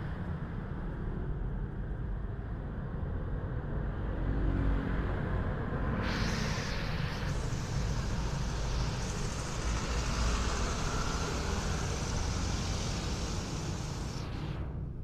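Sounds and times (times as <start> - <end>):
road traffic rumble and hiss: 0.0 - 15.0.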